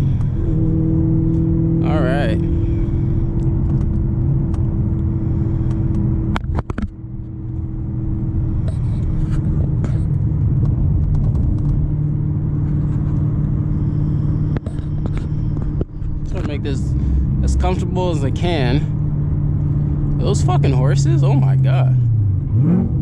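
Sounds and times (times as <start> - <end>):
sports car engine droning: 0.0 - 23.0.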